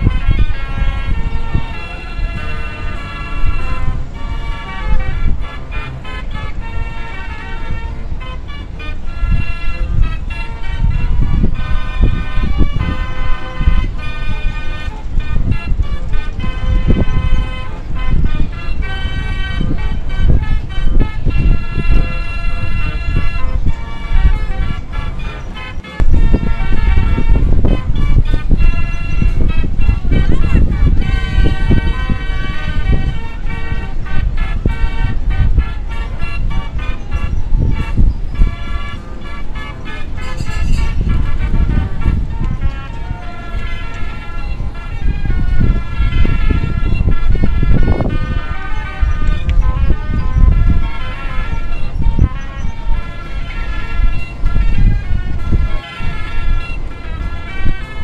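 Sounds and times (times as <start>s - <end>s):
birds honking: 0.0s - 58.0s
heavy pulsing bass: 0.0s - 58.0s
horn-like chords: 0.0s - 58.0s
steady low rumble: 0.0s - 58.0s.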